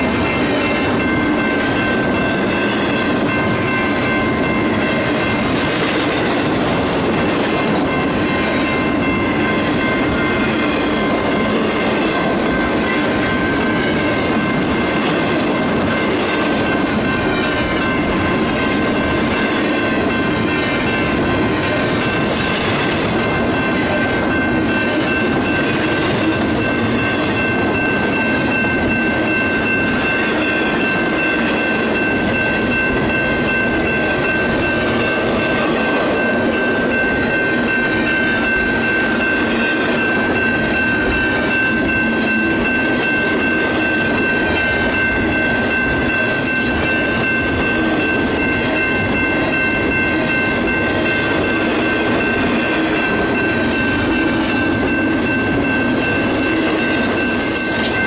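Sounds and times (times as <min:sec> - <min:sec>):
train wheels rolling on rail: 0:00.0 - 0:58.0.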